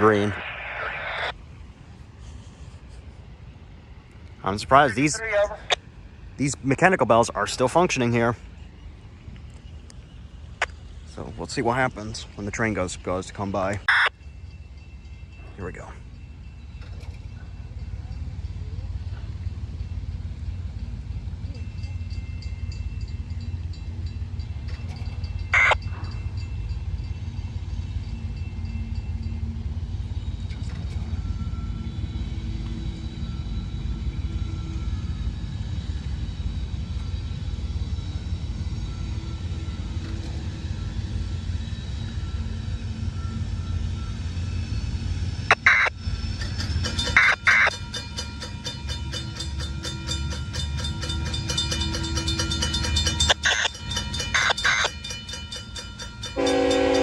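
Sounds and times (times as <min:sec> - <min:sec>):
freight train rumbling: 0:00.0 - 0:57.0
crossing bells ringing: 0:01.6 - 0:05.7, 0:06.4 - 0:36.3, 0:37.0 - 0:57.0.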